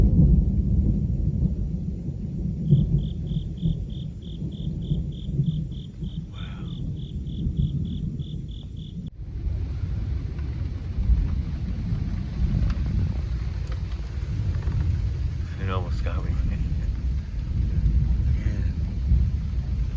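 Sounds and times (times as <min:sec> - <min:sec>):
rolling thunder: 0:00.0 - 0:19.9.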